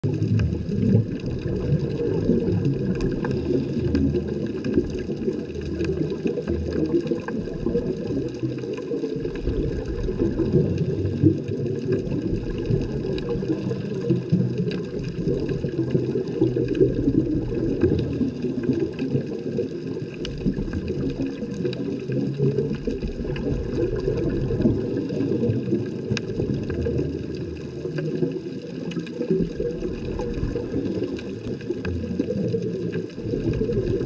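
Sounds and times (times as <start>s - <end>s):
faint clicks and crackles: 0.0s - 34.0s
muffled underwater rush: 0.0s - 34.0s.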